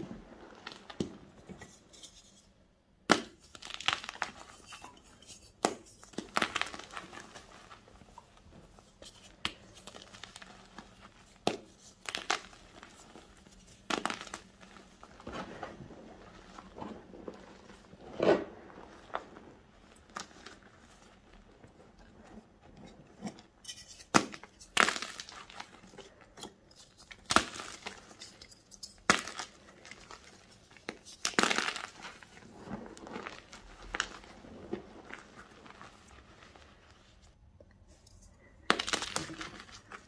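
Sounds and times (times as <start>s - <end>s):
chalk crunching and crumbling: 3.3s - 40.0s.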